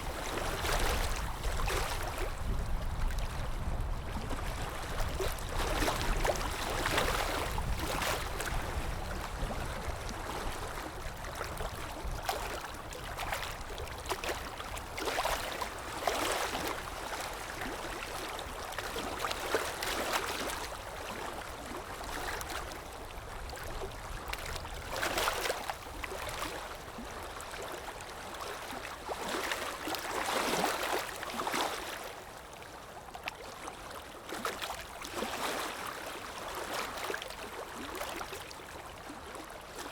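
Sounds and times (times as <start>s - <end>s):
water splashing and flowing: 0.0s - 39.9s.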